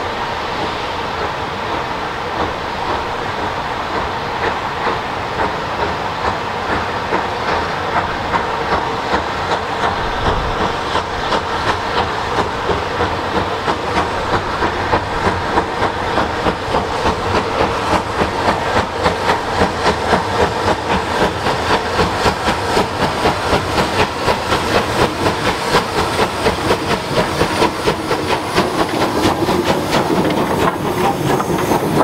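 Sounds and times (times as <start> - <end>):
steam locomotive exhaust beats: 0.0 - 32.0.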